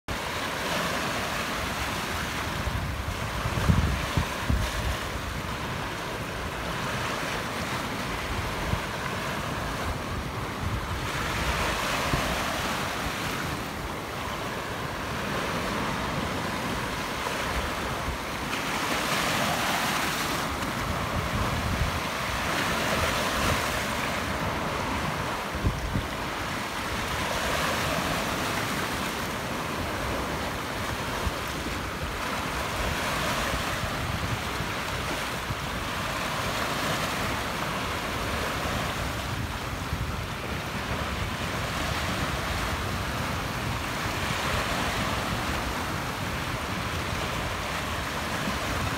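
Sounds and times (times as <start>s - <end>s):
surf washing over rock: 0.1s - 48.9s.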